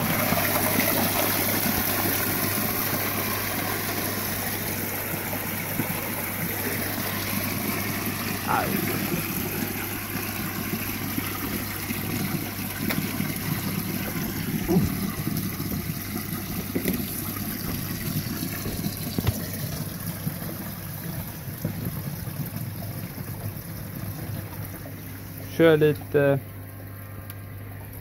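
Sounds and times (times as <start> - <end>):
water gushing from pipe: 0.0 - 28.0.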